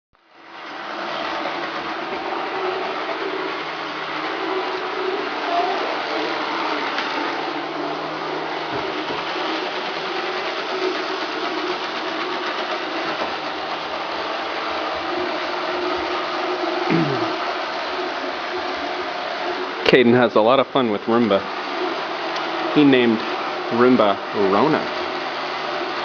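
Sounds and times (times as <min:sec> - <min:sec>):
robot vacuum running: 0:00.3 - 0:26.0.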